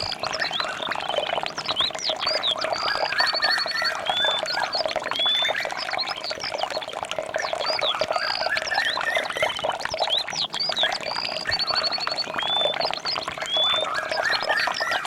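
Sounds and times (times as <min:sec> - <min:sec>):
bird trill: 0:00.0 - 0:06.6, 0:07.5 - 0:15.0
birds chirping and whistling: 0:00.0 - 0:15.0
lower bird calls: 0:00.0 - 0:15.0.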